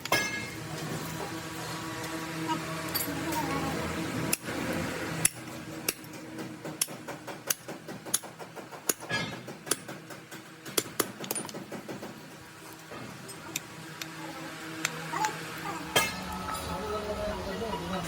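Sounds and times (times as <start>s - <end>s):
faint machine hum: 0.0s - 18.0s.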